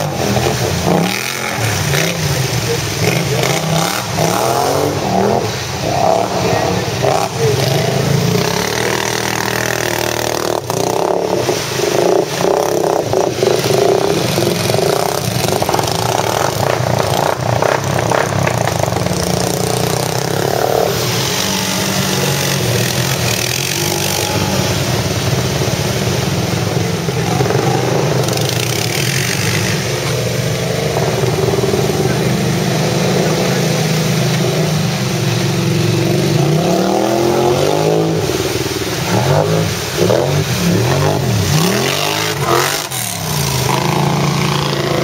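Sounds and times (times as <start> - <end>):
quad bike engines revving: 0.0 - 45.0
vehicle driving through muddy water: 0.0 - 45.0.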